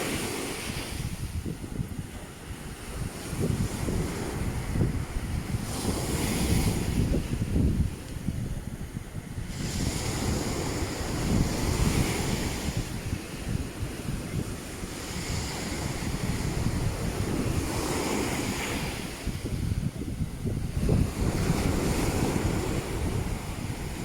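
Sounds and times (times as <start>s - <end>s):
sea waves breaking on beach: 0.0s - 24.0s
wind buffeting microphone: 0.0s - 24.0s.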